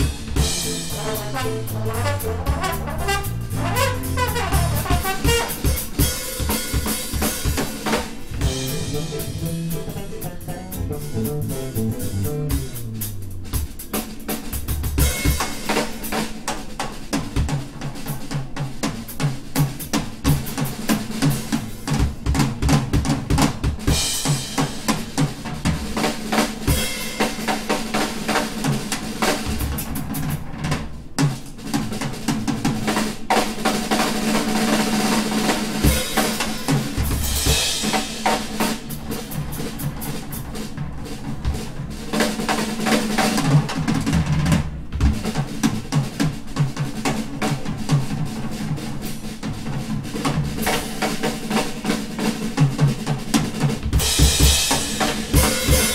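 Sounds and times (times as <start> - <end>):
drum kit solo: 0.0 - 55.9.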